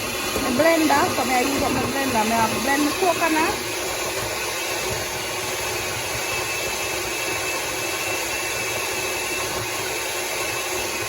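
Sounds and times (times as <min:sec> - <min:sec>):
electric blender whirring: 0:00.0 - 0:11.0.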